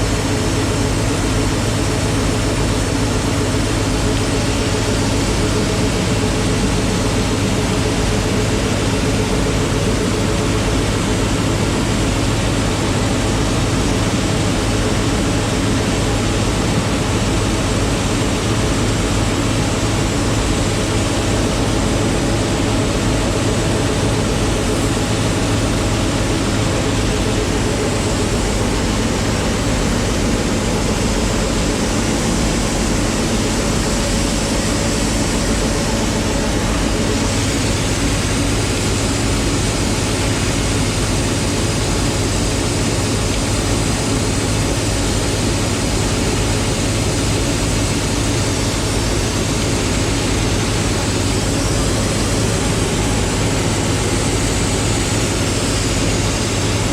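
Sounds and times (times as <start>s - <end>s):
broad rush of spray noise: 0.0s - 56.9s
crop sprayer engine drone: 0.0s - 56.9s.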